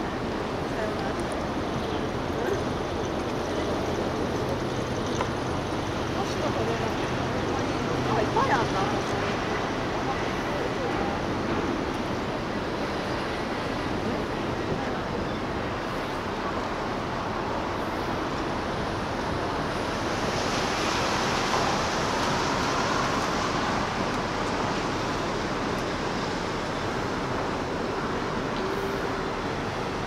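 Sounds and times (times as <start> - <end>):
rushing harbourside noise: 0.0 - 30.0.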